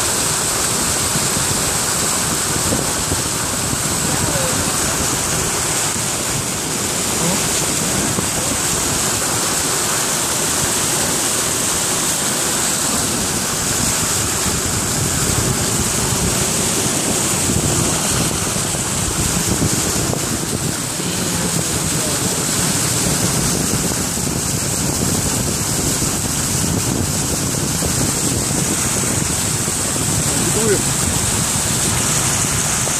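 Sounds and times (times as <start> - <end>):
tyres splashing through water: 0.0 - 32.9.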